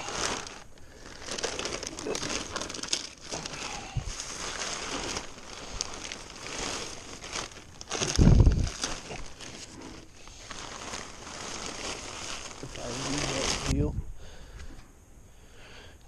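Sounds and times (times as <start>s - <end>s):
plastic wrapping crinkling: 0.0s - 13.9s.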